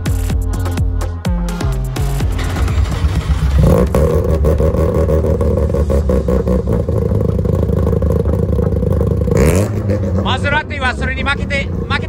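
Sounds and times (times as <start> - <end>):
car engine idling unevenly: 0.1 - 12.0.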